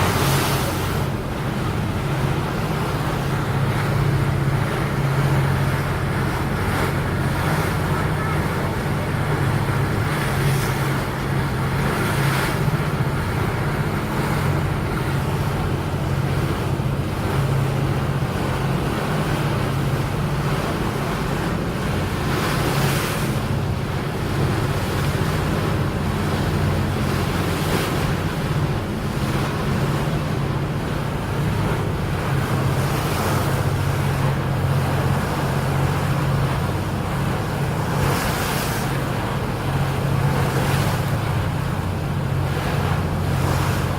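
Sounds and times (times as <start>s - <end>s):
boat engine droning: 0.0s - 43.9s
water rushing past hull: 0.0s - 43.9s.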